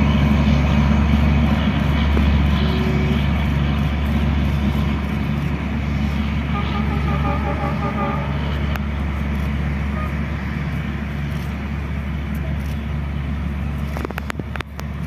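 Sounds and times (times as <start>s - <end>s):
diesel train drone: 0.0s - 15.0s.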